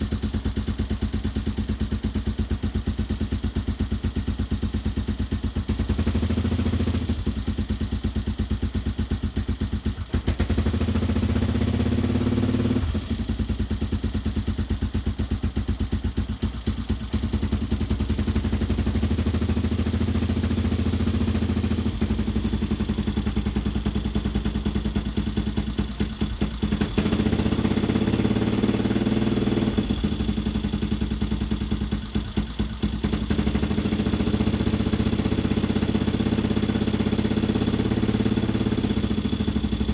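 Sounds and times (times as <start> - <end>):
single-cylinder engine idling: 0.0 - 39.9.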